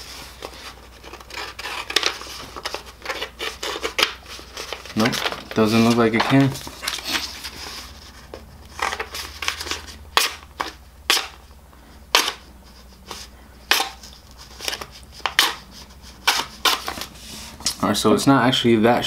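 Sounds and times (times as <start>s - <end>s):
knife blade scraping paper: 0.0s - 11.4s, 12.1s - 17.7s
paper rustling and crackling: 0.0s - 11.4s, 12.2s - 17.8s.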